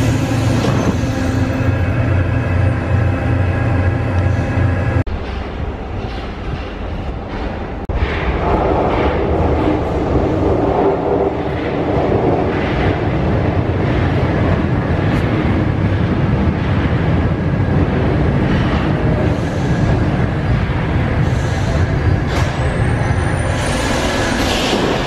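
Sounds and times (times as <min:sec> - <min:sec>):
train rumbling into station: 0:00.0 - 0:25.0.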